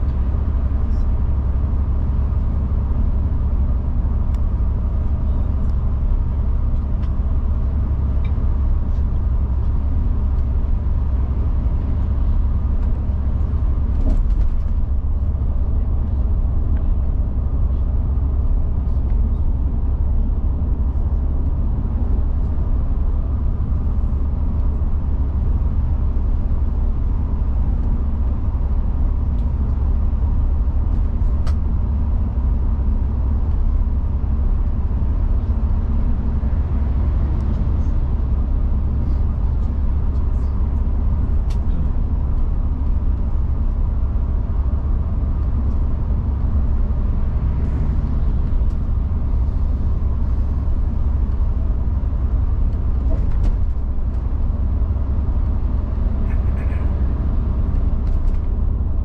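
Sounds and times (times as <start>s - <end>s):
coach engine and tyre rumble: 0.0s - 59.0s.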